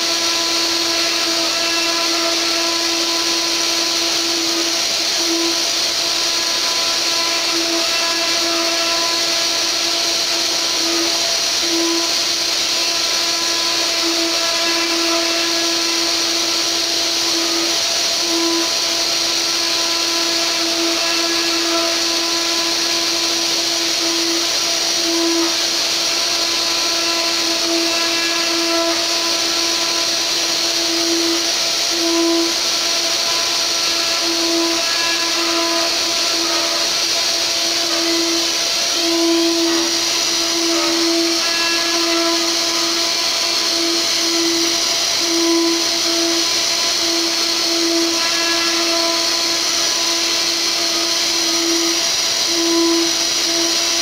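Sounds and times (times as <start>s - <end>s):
cnc spindle whine: 0.0s - 54.0s
hiss of wood cutting: 0.0s - 54.0s.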